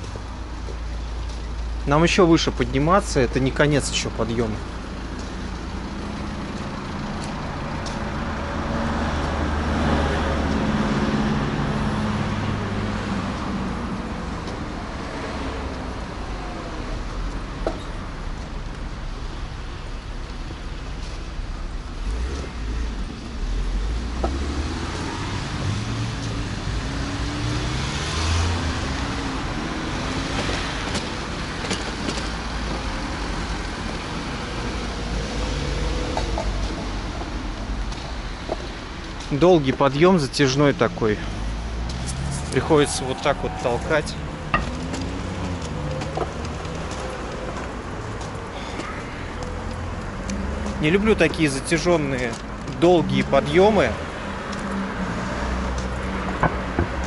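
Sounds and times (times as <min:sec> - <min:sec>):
tyres on road: 0:00.0 - 0:57.0
vehicles passing: 0:00.0 - 0:57.0.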